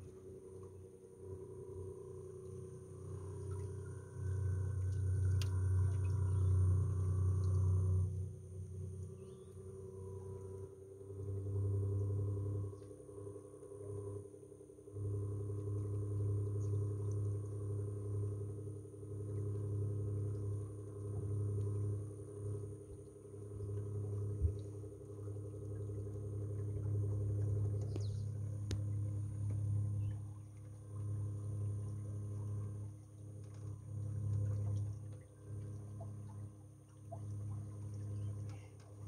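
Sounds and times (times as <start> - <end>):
electric boat motor humming: 0.0 - 39.0.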